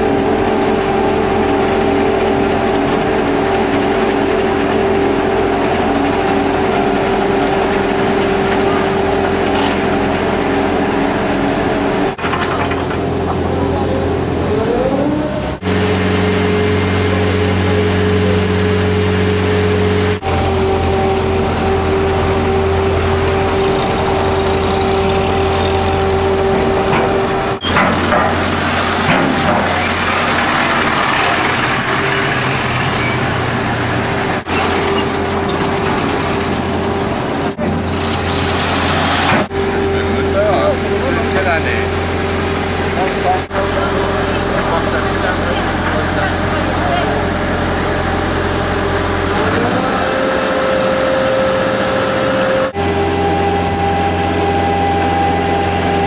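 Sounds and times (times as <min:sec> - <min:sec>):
car engine revving: 0:00.0 - 0:56.0
ferry engine droning: 0:00.0 - 0:56.0.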